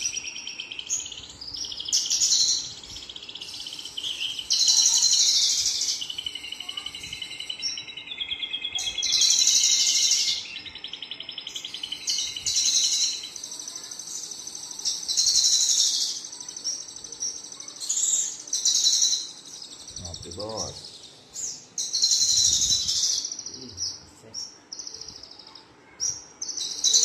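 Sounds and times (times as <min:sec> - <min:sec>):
bird singing rapid trills: 0:00.0 - 0:27.0.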